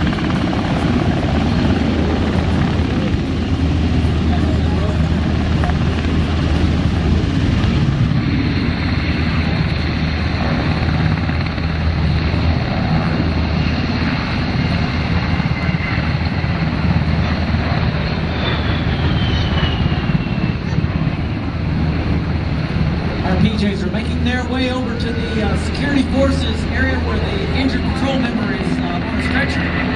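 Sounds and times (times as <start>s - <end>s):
helicopter rotor and engine: 0.0s - 29.9s.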